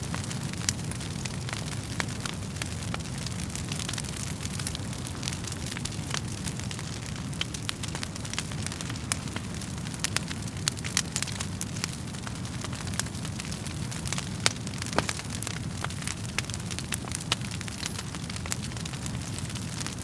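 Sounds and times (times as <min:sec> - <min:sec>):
low rumble of flames: 0:00.0 - 0:20.0
wood fire crackling: 0:00.0 - 0:20.0
pops and snaps of fire: 0:00.1 - 0:20.0.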